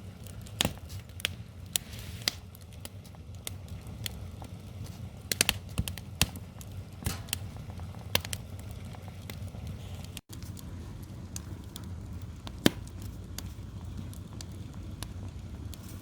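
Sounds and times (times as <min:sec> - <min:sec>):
low steady rumble: 0:00.0 - 0:16.0
wood fire crackling: 0:00.0 - 0:16.0.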